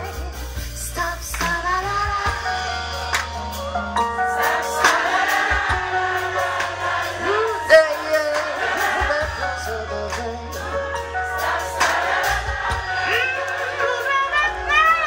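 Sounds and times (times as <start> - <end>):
drum kit: 0.0 - 15.0
guitar: 0.0 - 15.0
keyboard: 0.0 - 15.0.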